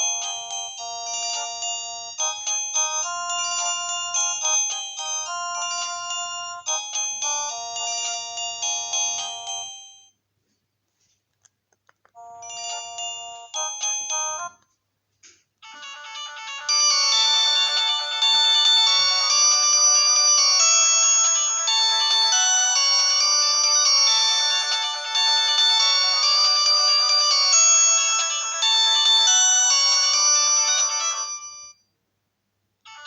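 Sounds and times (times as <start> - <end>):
electronic phone ringtones: 0.0 - 10.1, 12.2 - 14.6, 15.6 - 31.8.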